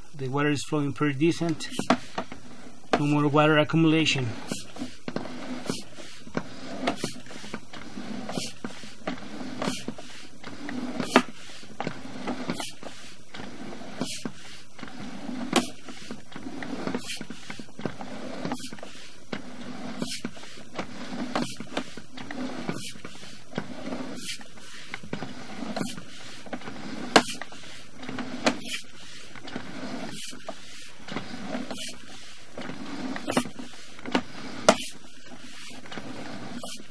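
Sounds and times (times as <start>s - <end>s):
cable reel rumbling hum: 0.0s - 36.9s.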